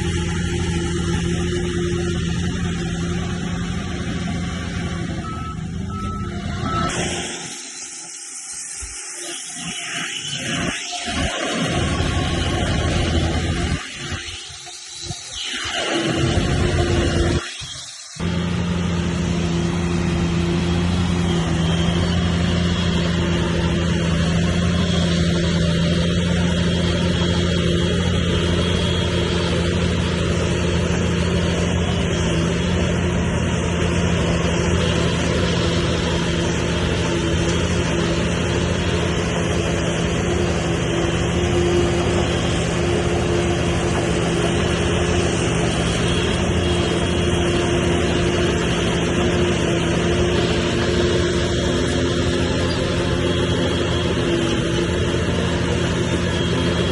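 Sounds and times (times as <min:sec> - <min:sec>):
heavy diesel engine running: 0:00.0 - 0:09.4, 0:10.4 - 0:15.2, 0:16.0 - 0:56.9.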